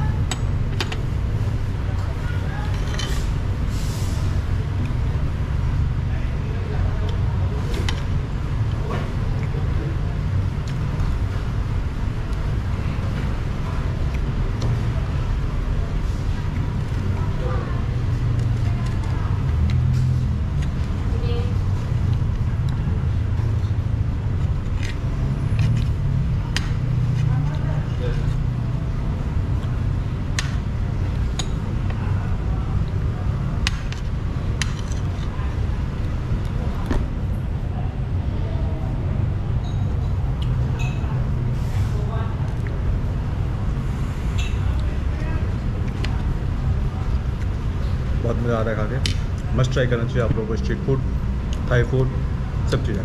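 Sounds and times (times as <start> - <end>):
low rumbling background noise: 0.0 - 53.0.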